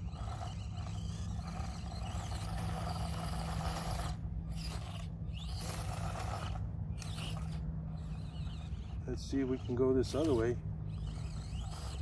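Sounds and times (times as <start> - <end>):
small electric motor whirring: 0.0 - 12.0
tires scraping on rock: 0.0 - 12.0.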